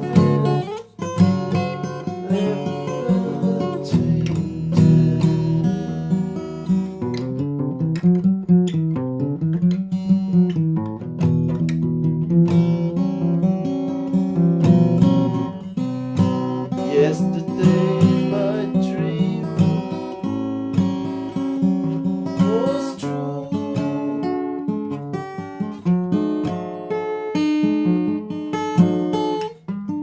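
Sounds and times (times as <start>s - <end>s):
acoustic guitar strumming chords: 0.0s - 30.0s.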